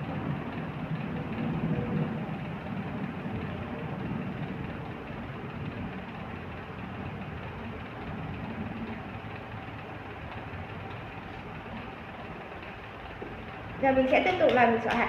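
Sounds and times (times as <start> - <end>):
faint hum: 0.0 - 15.0
low background rumble: 0.0 - 15.0.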